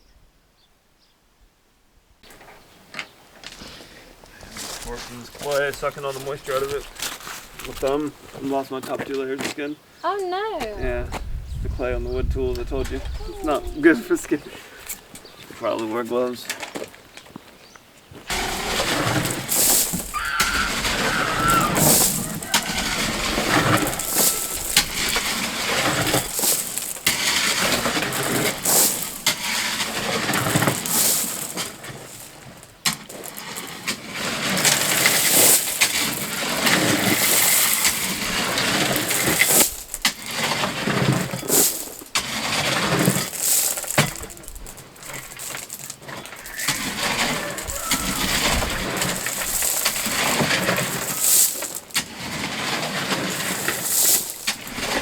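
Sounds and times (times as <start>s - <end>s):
rocks clattering and scraping: 2.3s - 9.6s, 12.8s - 55.0s.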